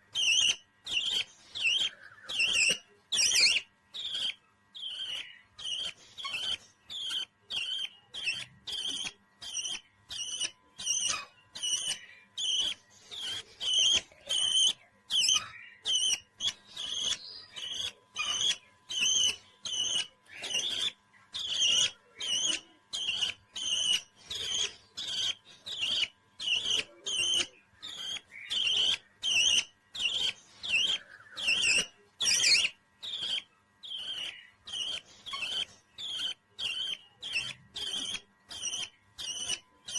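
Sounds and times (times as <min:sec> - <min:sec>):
parrot chirping: 0:00.0 - 0:39.9.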